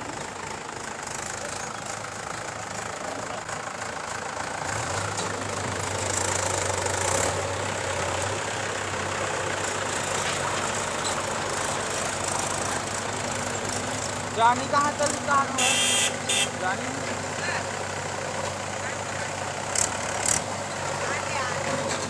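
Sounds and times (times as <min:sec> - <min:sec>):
diesel digger engine running: 0:00.0 - 0:22.0.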